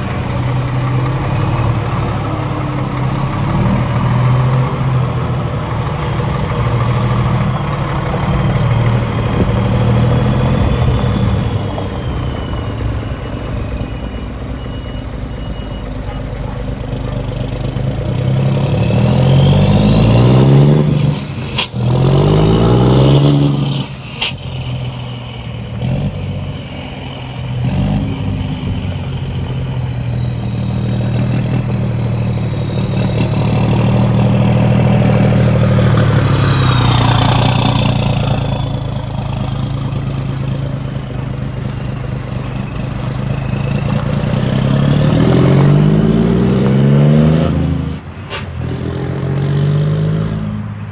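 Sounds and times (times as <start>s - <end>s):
vehicle engine accelerating: 0.0s - 50.9s.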